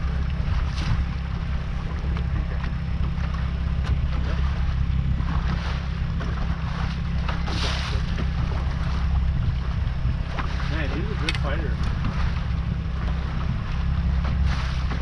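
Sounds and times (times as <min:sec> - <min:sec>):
boat motor rumbling: 0:00.0 - 0:15.0
wind on microphone: 0:00.0 - 0:15.0.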